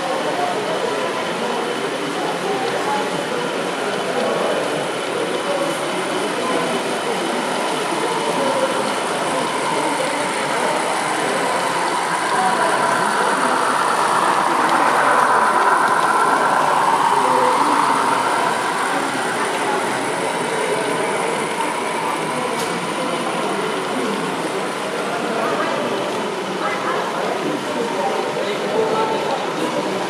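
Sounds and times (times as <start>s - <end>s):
model train running: 0.0s - 30.0s.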